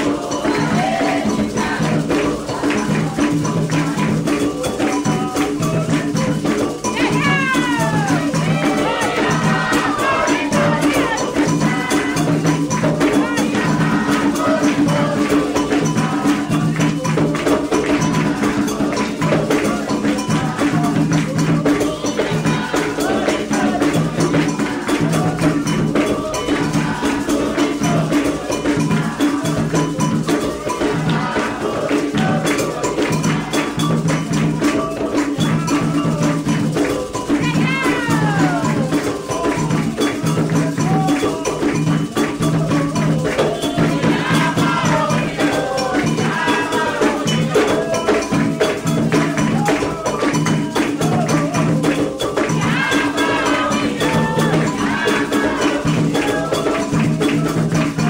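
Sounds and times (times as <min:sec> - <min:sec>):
agogo bell: 0:00.0 - 0:58.0
hand drums rhythm: 0:00.0 - 0:58.0.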